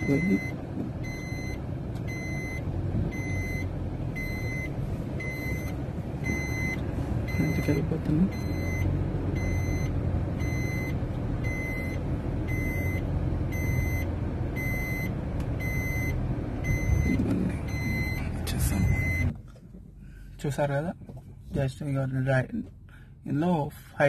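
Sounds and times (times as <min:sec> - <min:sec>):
reverse warning beeps: 0:00.0 - 0:19.3
car engine hum: 0:00.0 - 0:24.0.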